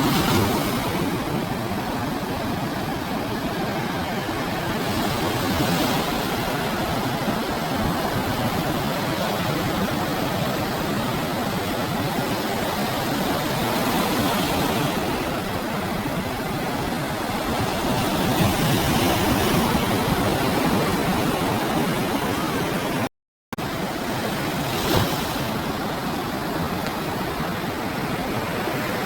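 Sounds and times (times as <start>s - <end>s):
ocean surf breaking on beach: 0.0s - 29.0s.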